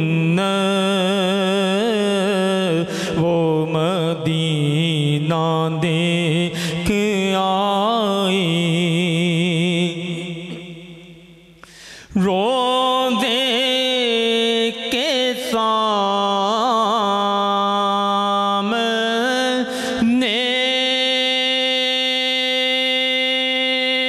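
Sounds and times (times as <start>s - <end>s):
man singing into a microphone: 0.0s - 24.0s.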